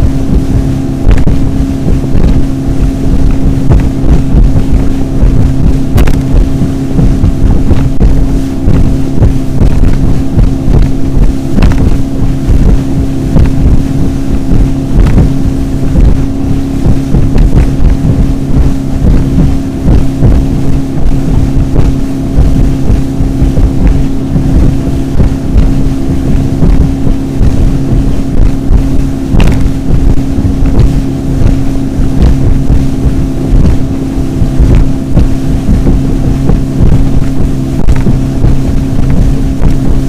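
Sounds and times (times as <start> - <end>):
hull thumping on waves: 0.0 - 40.0
motorboat engine running: 0.0 - 40.0
wind buffeting microphone: 0.0 - 40.0.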